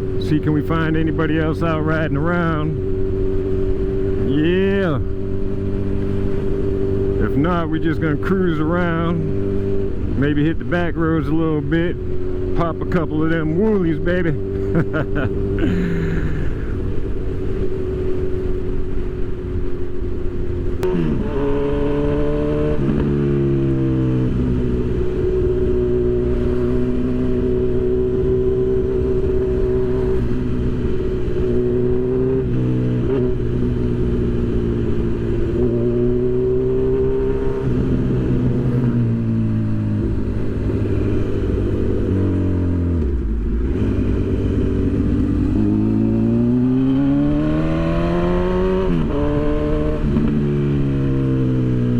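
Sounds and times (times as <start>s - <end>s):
motorcycle engine shifting gears: 0.0s - 51.9s.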